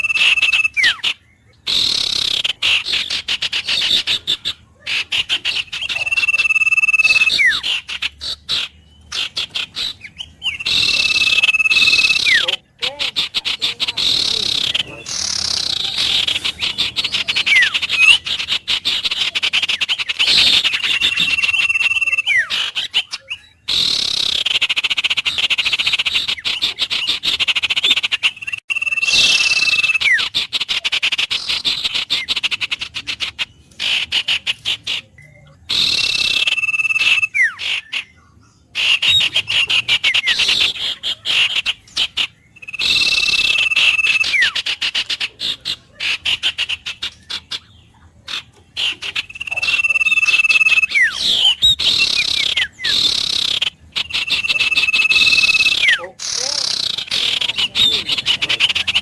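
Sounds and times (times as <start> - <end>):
birds whistling calls: 0.0 - 59.0.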